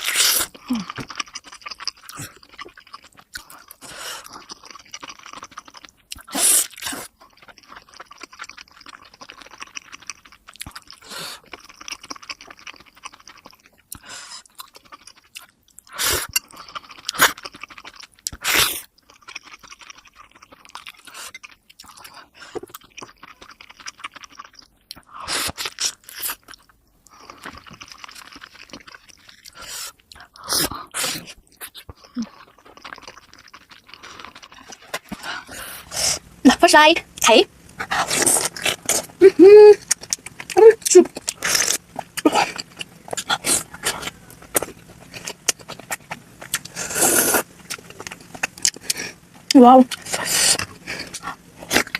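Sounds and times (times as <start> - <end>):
wet chewing sounds: 0.0 - 51.9.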